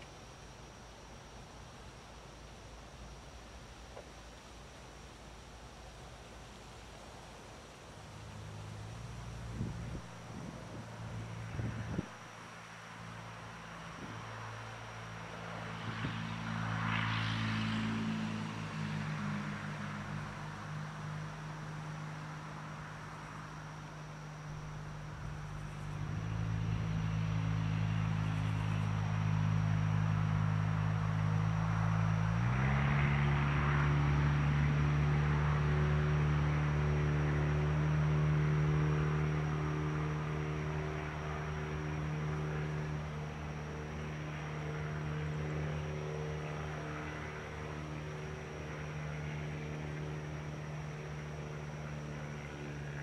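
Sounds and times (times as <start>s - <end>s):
insects chirring: 0.0s - 53.0s
low mechanical hum: 0.0s - 53.0s.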